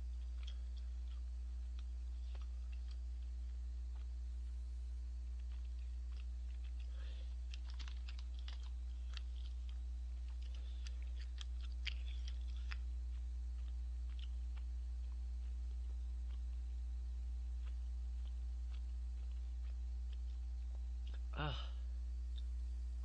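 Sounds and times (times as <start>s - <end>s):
steady low hum: 0.0s - 23.0s
wet chewing smacks: 0.1s - 4.6s, 5.3s - 16.7s, 17.5s - 21.2s.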